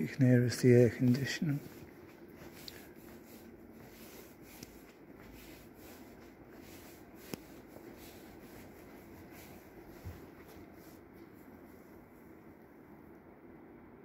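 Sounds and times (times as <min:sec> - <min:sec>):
air conditioning hum: 0:00.0 - 0:14.0.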